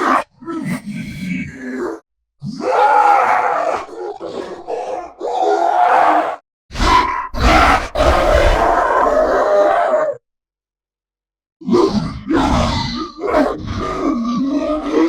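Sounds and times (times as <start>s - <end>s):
monster growls and grunts: 0.0s - 10.2s, 11.6s - 15.0s.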